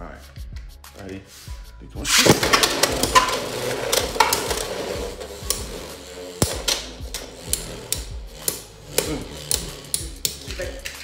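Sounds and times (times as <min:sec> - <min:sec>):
spinning tops clacking: 0:02.1 - 0:11.0.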